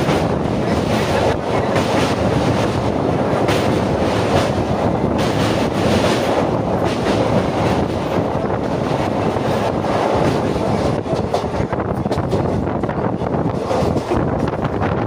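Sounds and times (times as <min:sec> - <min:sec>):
train rumbling on track: 0:00.0 - 0:15.0
wind on microphone: 0:00.0 - 0:15.0.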